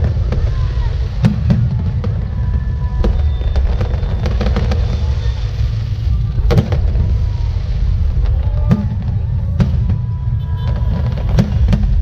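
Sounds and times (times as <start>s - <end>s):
fireworks bangs: 0.0s - 12.0s
heavy low rumble: 0.0s - 12.0s.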